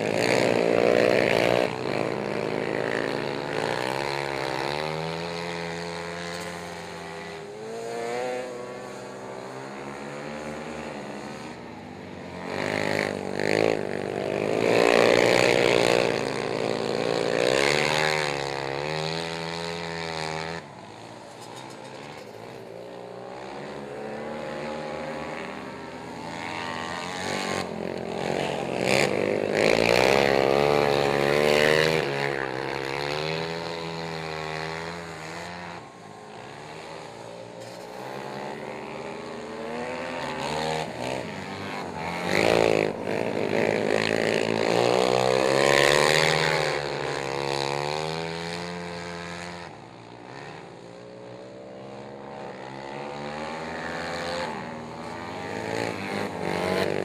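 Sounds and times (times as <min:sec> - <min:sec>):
quad engines revving: 0:00.0 - 0:57.0.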